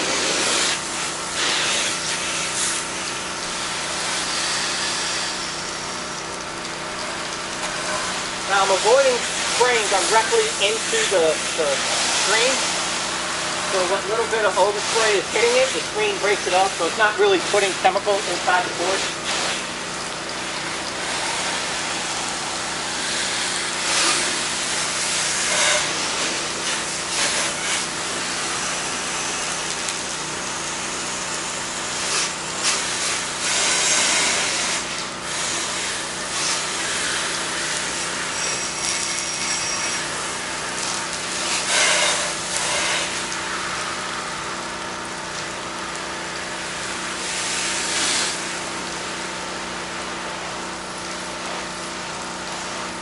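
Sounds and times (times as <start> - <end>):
pressure washer humming: 0.0 - 53.0.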